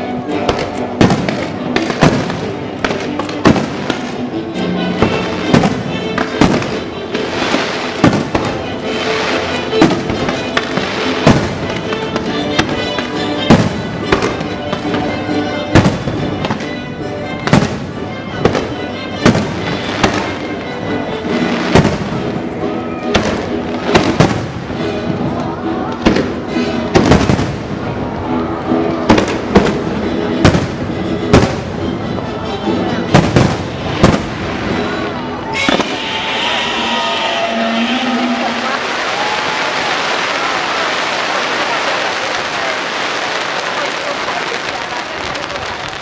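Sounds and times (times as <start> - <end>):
music with sustained tones: 0.0 - 41.1
fireworks bursting with sharp bangs: 0.0 - 46.0.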